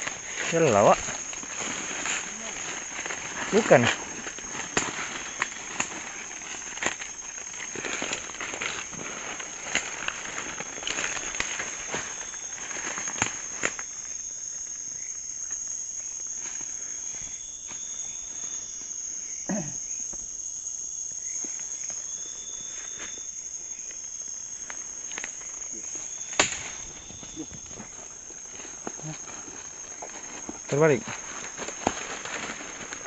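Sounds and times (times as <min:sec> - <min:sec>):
night insects trilling: 0:00.0 - 0:33.0.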